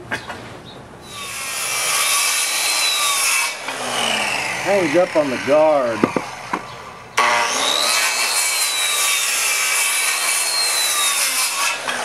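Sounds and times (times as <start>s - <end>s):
power saw cutting: 1.0s - 12.0s.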